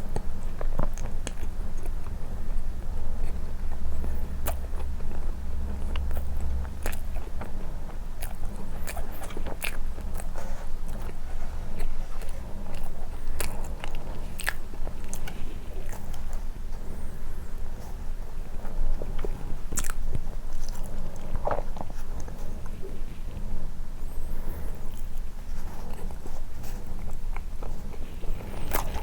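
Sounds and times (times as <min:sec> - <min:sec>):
chewing and biting soft bread: 0:00.0 - 0:29.0
steady low rumble: 0:00.0 - 0:29.0.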